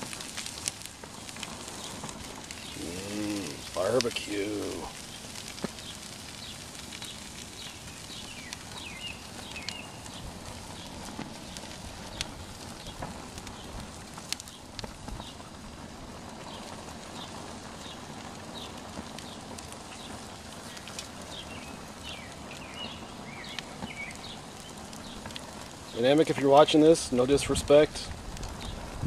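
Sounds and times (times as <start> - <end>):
paper burning with hiss and crackles: 0.0 - 29.0
birds chirping: 1.1 - 15.6, 16.4 - 26.9.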